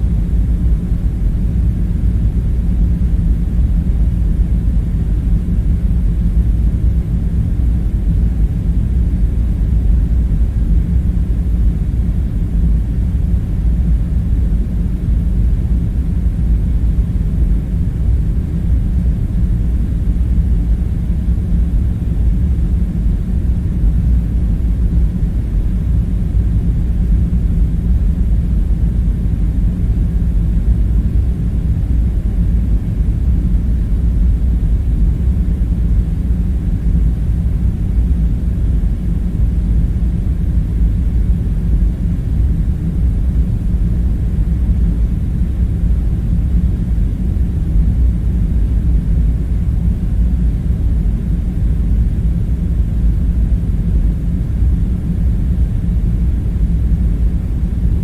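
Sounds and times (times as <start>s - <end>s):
room hum low drone: 0.0s - 58.0s.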